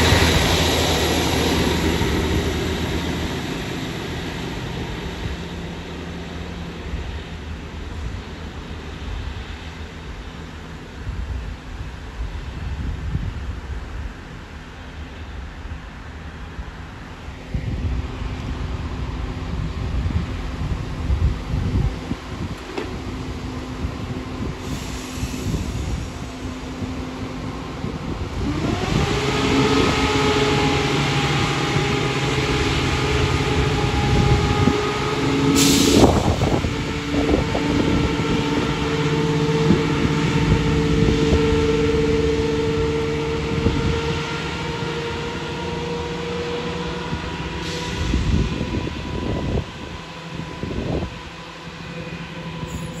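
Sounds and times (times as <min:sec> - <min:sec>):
diesel train engines revving: 0:00.0 - 0:53.0.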